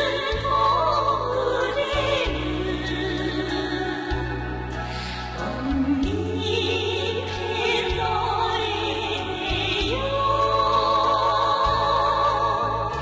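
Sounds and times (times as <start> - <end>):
low musical accompaniment: 0.0 - 13.0
person singing with vibrato: 0.0 - 13.0.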